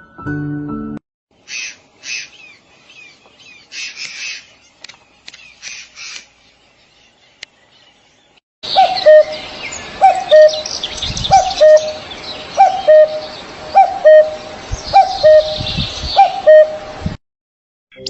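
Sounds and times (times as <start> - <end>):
small birds chirping: 1.4 - 16.7.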